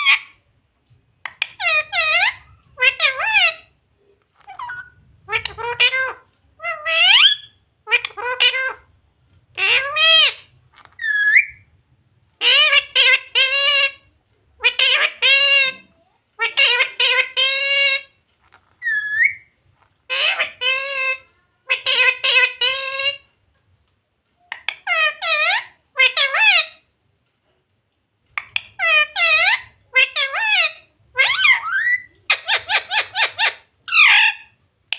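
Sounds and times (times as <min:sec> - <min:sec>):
parrot squawks: 0:00.0 - 0:00.4, 0:01.2 - 0:03.7, 0:04.4 - 0:08.9, 0:09.5 - 0:11.6, 0:12.4 - 0:23.3, 0:24.4 - 0:26.8, 0:28.4 - 0:34.6
parrot talking: 0:00.0 - 0:00.4, 0:01.2 - 0:08.9, 0:09.5 - 0:11.6, 0:12.4 - 0:23.3, 0:24.4 - 0:26.8, 0:28.4 - 0:34.6.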